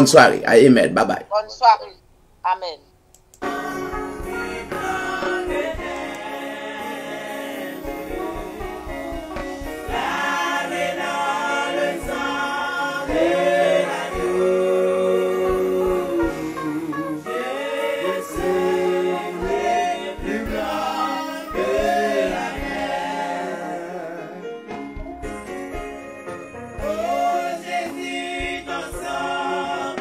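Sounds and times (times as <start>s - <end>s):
choir singing a hymn: 3.4s - 30.0s.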